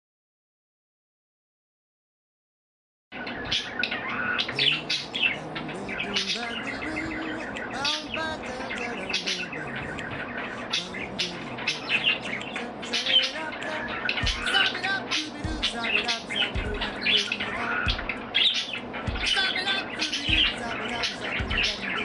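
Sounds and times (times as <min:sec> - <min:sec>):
budgerigars chirping and whistling: 0:03.2 - 0:22.0.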